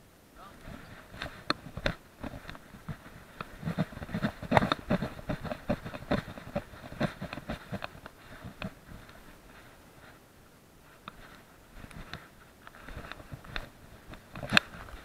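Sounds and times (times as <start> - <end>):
camera bumping and rustling: 0.6 - 10.2, 11.0 - 15.0.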